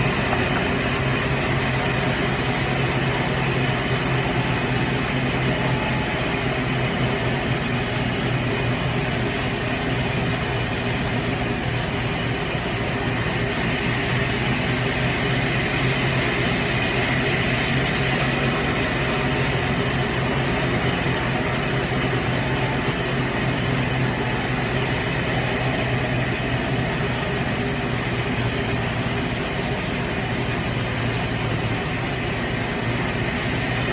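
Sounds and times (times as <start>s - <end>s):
sawmill saw cutting wood: 0.0s - 33.9s.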